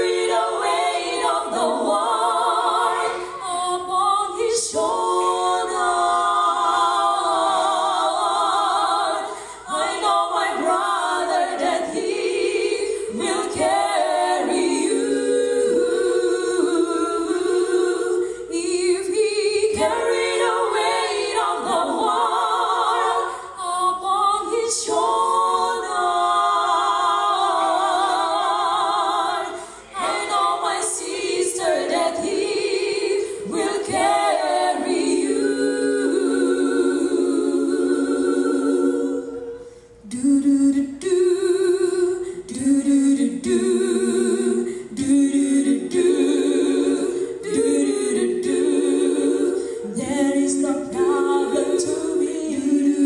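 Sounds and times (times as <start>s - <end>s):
choir singing a cappella: 0.0s - 53.0s.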